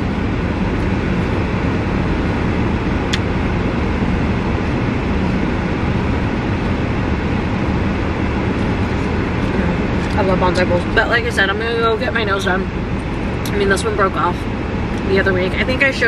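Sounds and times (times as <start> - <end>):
air-conditioning fan blowing: 0.0 - 16.0.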